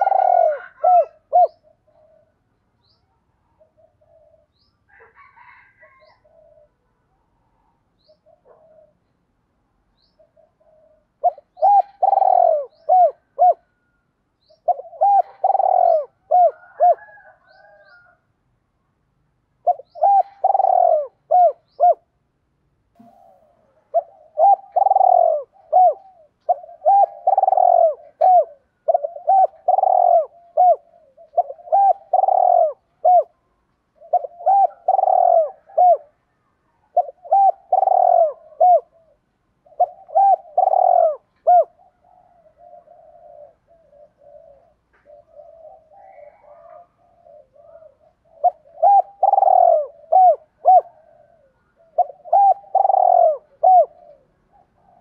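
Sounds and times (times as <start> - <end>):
dove cooing: 0.0 - 9.1, 10.0 - 18.2, 19.6 - 22.2, 23.0 - 55.0.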